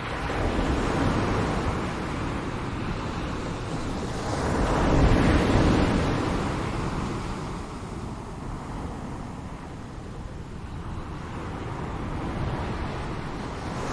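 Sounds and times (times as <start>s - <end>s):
ocean waves washing in: 0.0s - 13.9s.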